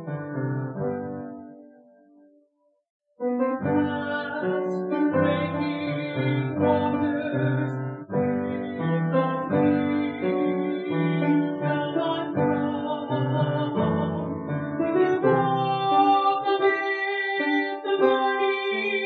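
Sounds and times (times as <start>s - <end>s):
instrumental keyboard music: 0.0s - 2.5s, 3.2s - 19.0s.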